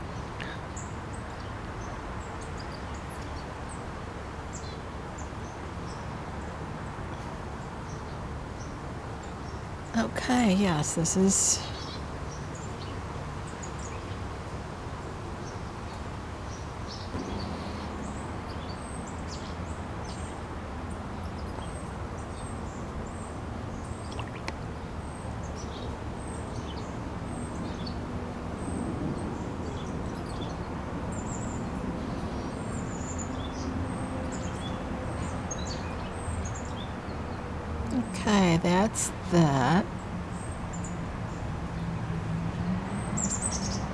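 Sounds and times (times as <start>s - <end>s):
small birds chirping: 0.0s - 3.8s, 4.5s - 14.2s, 15.0s - 41.9s, 43.0s - 43.9s.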